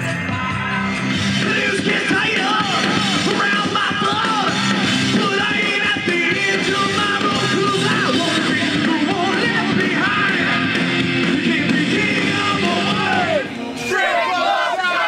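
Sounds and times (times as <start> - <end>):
live rock band playing: 0.0 - 13.8.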